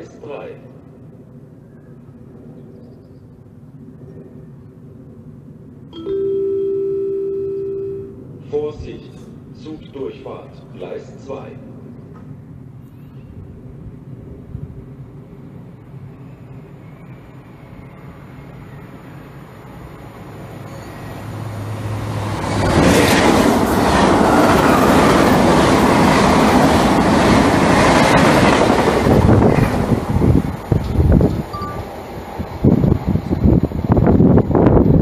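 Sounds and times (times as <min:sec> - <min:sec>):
high-speed train passing: 0:00.0 - 0:35.0.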